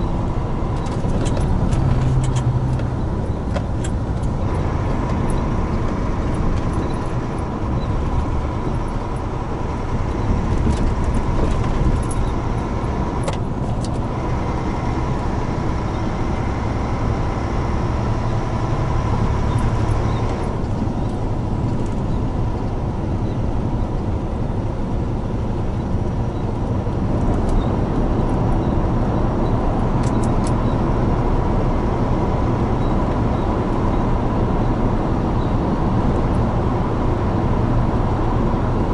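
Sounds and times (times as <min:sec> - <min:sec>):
diesel engine drone: 0:00.0 - 0:38.9
tyre and road noise: 0:00.0 - 0:38.9.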